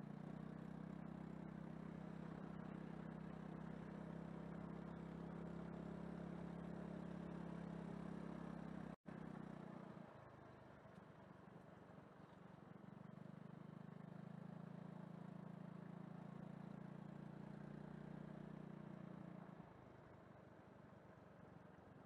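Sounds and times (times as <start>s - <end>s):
faint vehicle engine hum: 0.0s - 22.0s.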